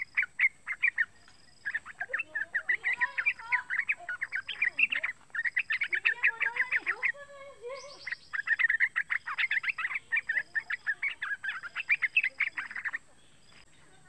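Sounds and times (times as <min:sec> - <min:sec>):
bird chattering song: 0:00.0 - 0:14.0.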